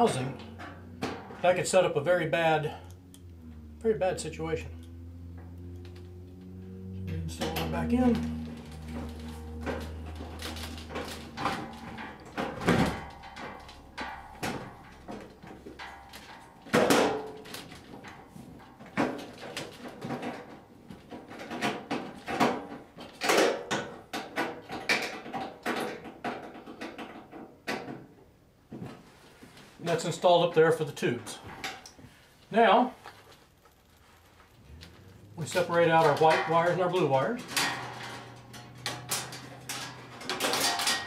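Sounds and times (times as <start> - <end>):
metal knocking and scraping: 0.0 - 3.6, 4.7 - 28.0, 34.4 - 41.0.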